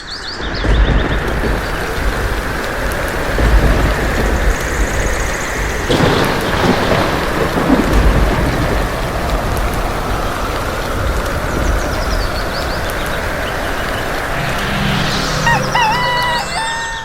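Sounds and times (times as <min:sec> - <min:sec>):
heavy rain: 0:00.0 - 0:17.0
low rolling thunder: 0:00.2 - 0:16.6.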